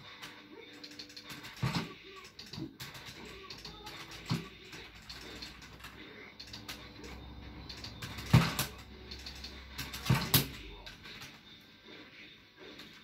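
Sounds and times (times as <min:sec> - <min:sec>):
joystick and buttons clicking: 0:00.0 - 0:11.4.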